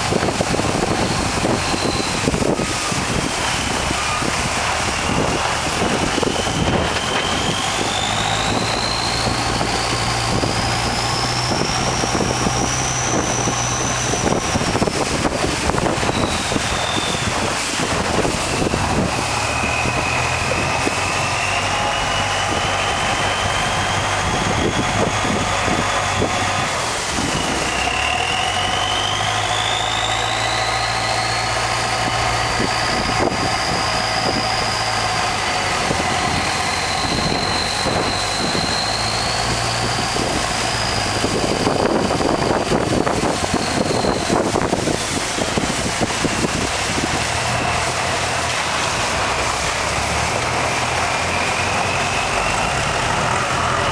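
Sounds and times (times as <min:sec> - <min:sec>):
boat engine running: 0:00.0 - 0:53.9
high whine: 0:00.0 - 0:53.9.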